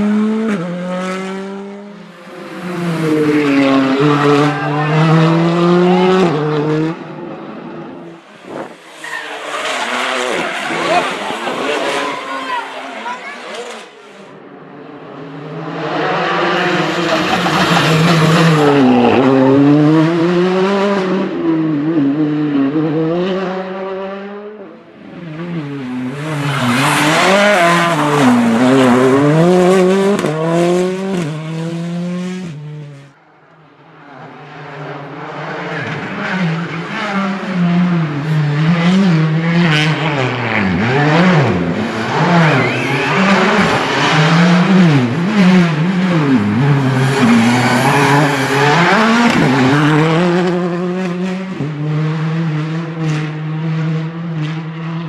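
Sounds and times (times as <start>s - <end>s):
rally car engines revving past: 0.0s - 33.2s, 33.8s - 55.0s.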